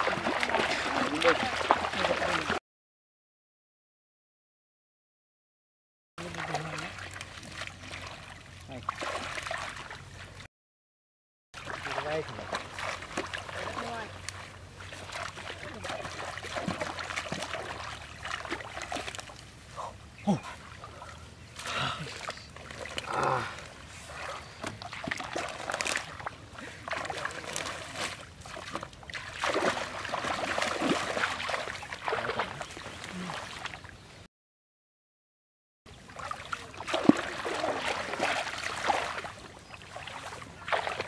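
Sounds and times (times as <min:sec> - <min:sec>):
water splashing and sloshing: 0:00.0 - 0:02.6, 0:06.2 - 0:10.5, 0:11.6 - 0:34.1, 0:35.9 - 0:41.0.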